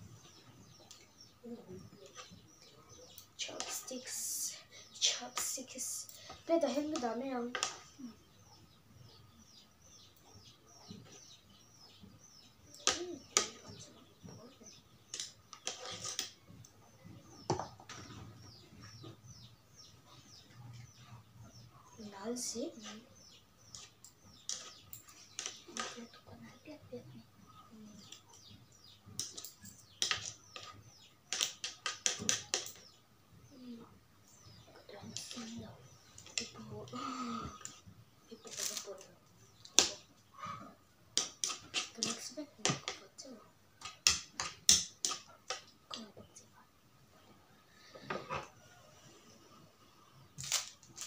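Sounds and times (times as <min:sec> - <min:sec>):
small bird chirping: 0:00.0 - 0:51.0.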